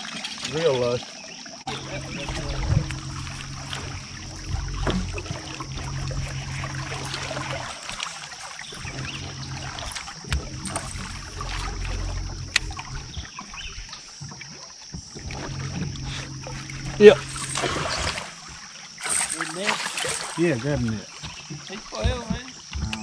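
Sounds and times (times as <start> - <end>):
trolling motor humming: 1.6 - 23.0.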